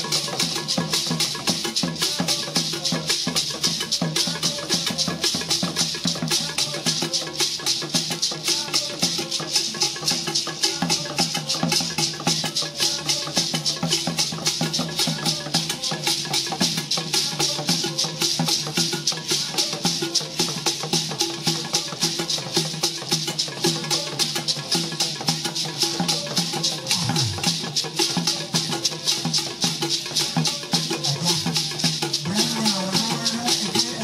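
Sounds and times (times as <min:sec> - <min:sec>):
gourd rattles shaken: 0:00.0 - 0:18.3, 0:23.8 - 0:34.0
hand drums: 0:00.0 - 0:34.0.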